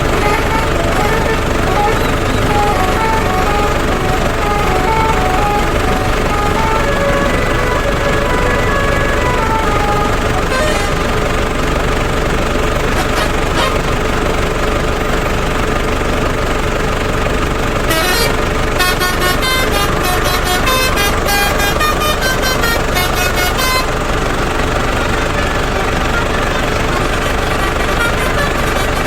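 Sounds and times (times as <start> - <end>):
multi-tone melody horn: 0.0 - 11.7, 12.9 - 14.0, 17.9 - 29.0
truck engine: 0.0 - 29.0.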